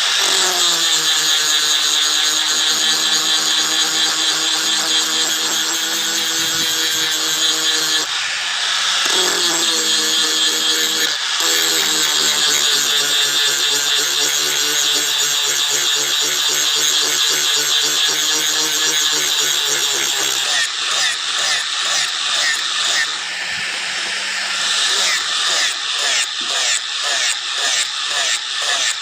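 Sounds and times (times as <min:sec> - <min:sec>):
electric grinder grinding metal: 0:00.0 - 0:29.0.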